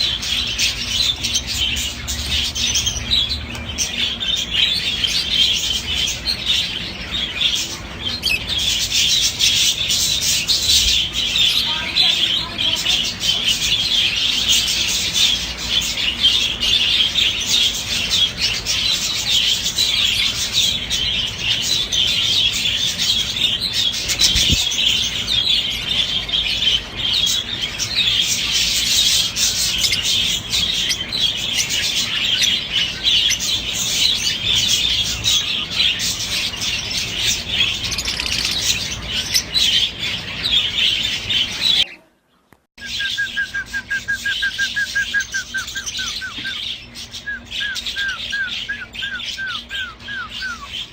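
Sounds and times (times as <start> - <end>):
flock of birds chirping: 0.0 - 50.9.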